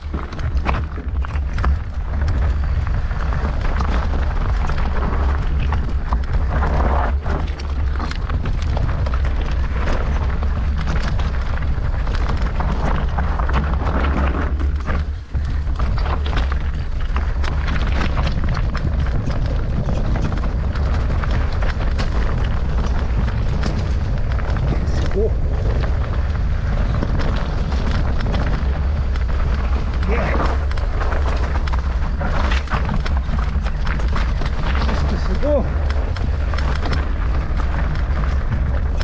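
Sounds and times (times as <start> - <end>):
bike tyres rattling on stones: 0.0 - 39.0
wind buffeting microphone: 0.0 - 39.0.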